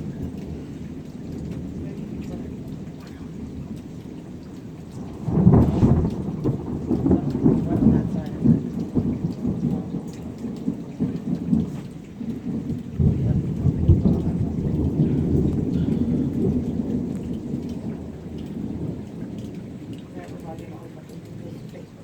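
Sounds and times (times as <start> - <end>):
steady rain: 0.0 - 22.0
thunder crack and rumble: 0.0 - 22.0.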